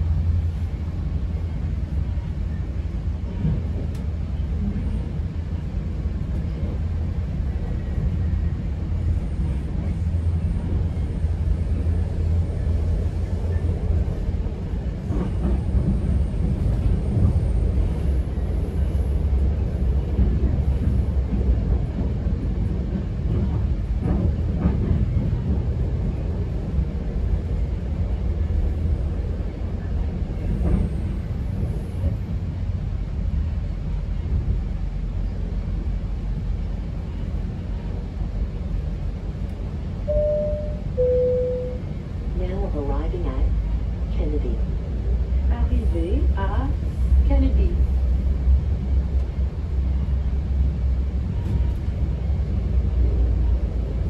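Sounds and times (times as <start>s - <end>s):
train rumble from inside coach: 0.0s - 54.0s.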